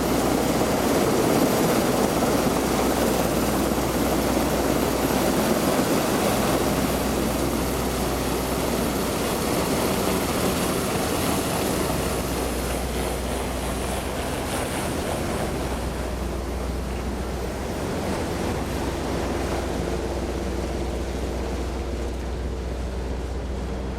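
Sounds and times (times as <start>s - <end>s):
helicopter engine and rotor: 0.0s - 23.9s
sea noise: 0.0s - 23.9s
wind: 0.0s - 23.9s.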